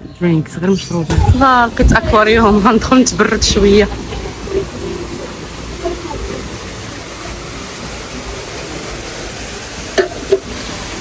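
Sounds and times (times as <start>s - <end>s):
background hiss: 1.5s - 11.0s.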